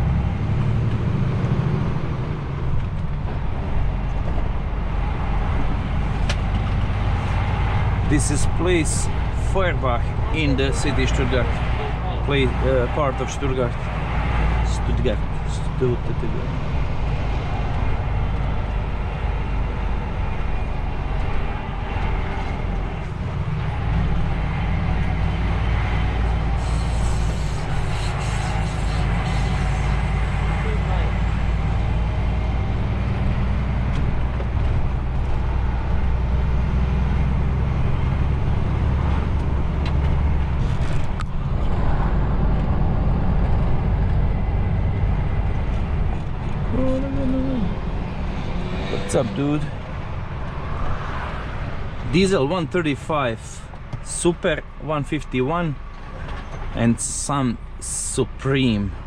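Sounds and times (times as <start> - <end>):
road noise: 0.0 - 59.0
truck diesel engine rumble: 0.0 - 59.0.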